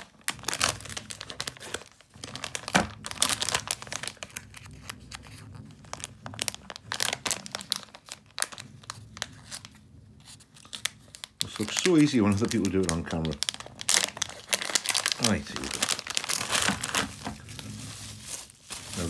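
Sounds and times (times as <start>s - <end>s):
plastic packaging crinkling and tearing: 0.0s - 19.0s.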